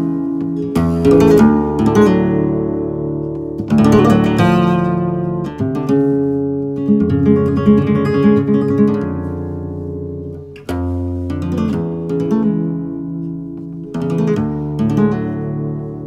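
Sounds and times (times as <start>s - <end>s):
flamenco guitar tremolo: 0.0s - 16.0s.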